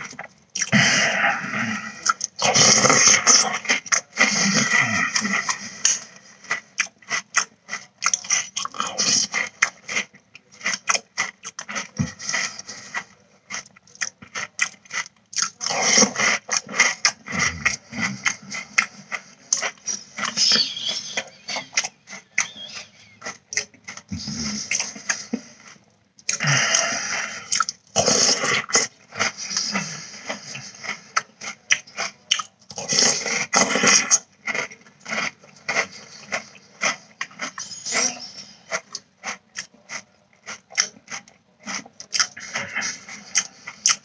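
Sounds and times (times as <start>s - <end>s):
person chewing crunchy cereal: 0.0s - 44.0s.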